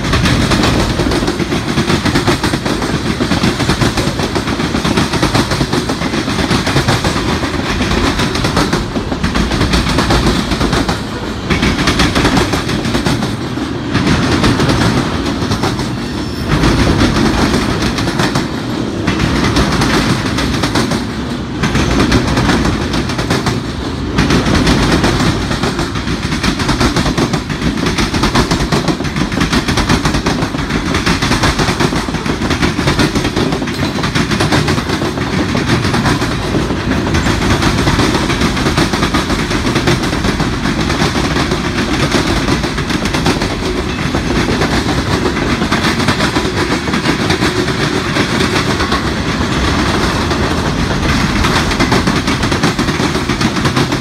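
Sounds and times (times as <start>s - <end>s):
wheels clattering over rail joints: 0.0s - 54.0s.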